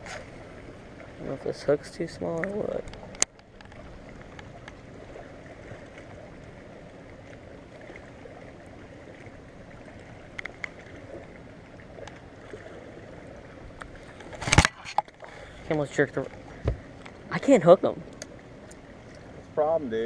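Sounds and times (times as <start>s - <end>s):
water lapping against hull: 0.0s - 20.0s.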